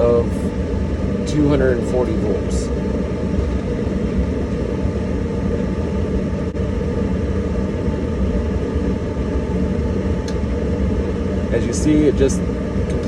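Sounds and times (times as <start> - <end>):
clothes dryer rumbling: 0.0 - 13.0.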